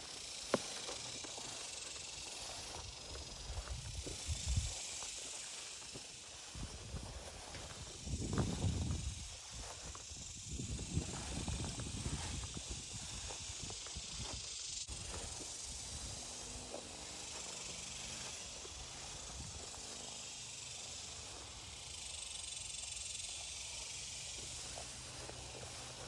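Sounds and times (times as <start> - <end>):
footsteps through tall grass: 0.0 - 26.0.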